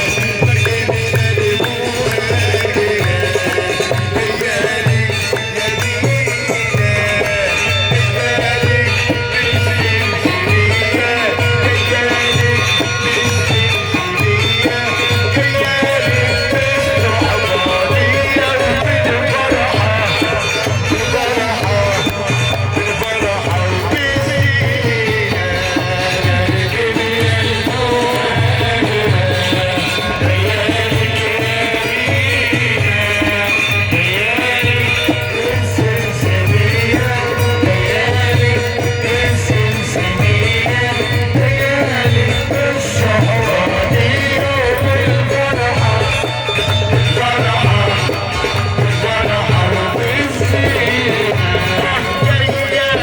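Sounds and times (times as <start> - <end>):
steady drum beat: 0.0 - 53.0.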